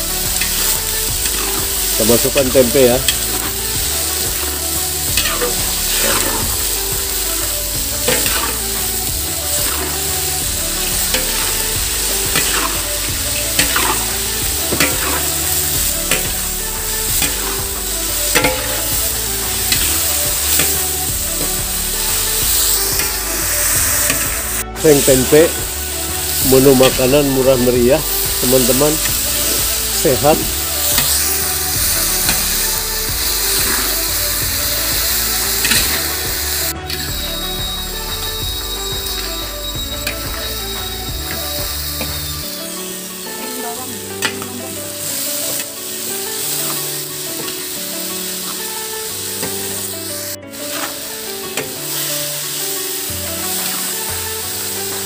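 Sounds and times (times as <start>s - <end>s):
food sizzling in a wok: 0.0s - 55.0s
metal spatula scraping a pan: 0.0s - 55.0s.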